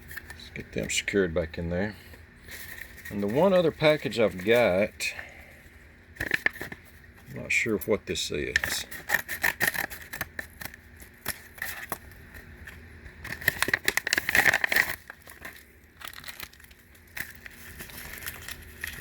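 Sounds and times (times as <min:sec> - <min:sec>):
package packaging crinkling: 0:02.4 - 0:05.4, 0:06.2 - 0:19.0.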